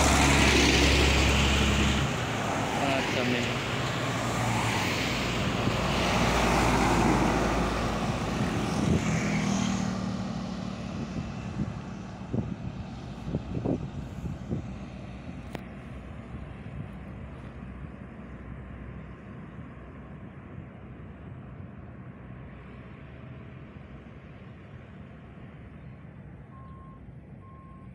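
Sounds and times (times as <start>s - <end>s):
distant traffic: 0.0s - 27.9s
truck passing by: 0.0s - 27.9s.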